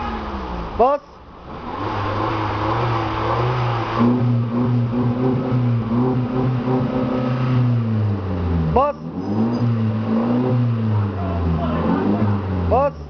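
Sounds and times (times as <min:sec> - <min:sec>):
car exhaust droning at raised revs: 0:00.0 - 0:13.0.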